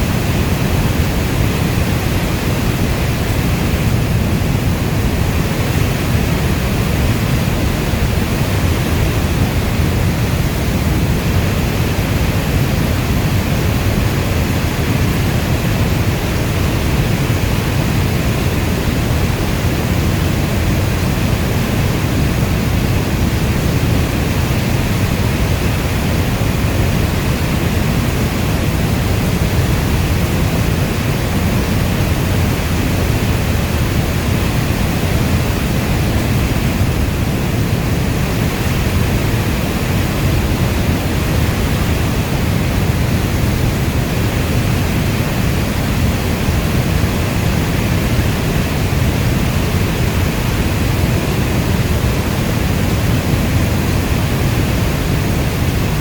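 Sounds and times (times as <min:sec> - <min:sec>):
steady heavy rain: 0:00.0 - 0:56.0.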